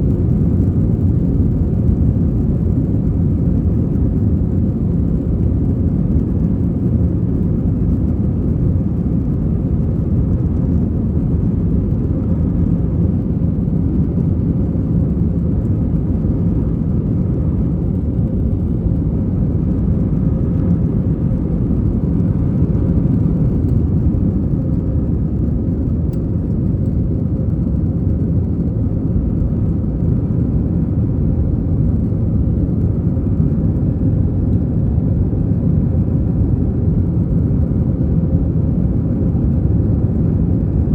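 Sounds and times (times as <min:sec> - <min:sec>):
jet engine drone in cabin: 0:00.0 - 0:40.9.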